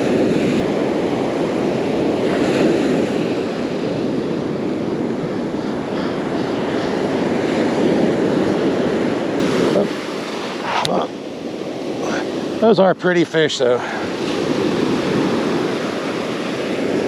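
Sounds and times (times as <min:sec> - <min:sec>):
surf washing onto beach: 0:00.0 - 0:17.0
wind rumbling on microphone: 0:00.0 - 0:17.0.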